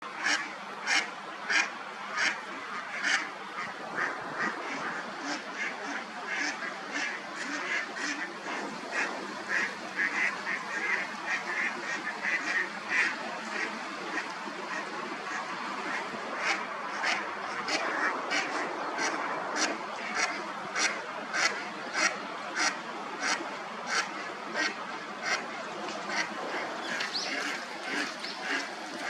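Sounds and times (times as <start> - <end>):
ducks quacking: 0.1 - 29.0.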